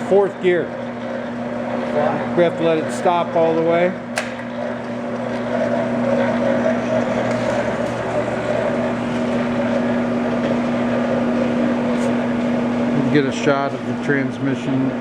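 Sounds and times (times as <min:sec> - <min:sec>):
floor mixer motor hum: 0:00.0 - 0:15.0.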